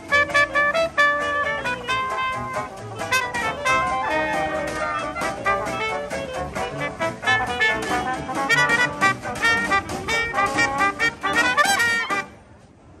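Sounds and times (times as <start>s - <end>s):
upbeat jazzy brass music: 0.0s - 12.5s.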